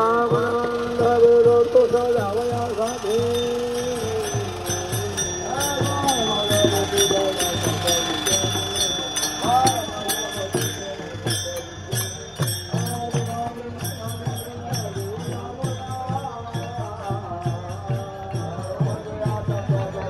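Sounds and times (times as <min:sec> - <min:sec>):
hand cymbals jingling: 0:00.0 - 0:20.0
voices chanting: 0:00.0 - 0:20.0
barrel drum beating: 0:00.1 - 0:20.0.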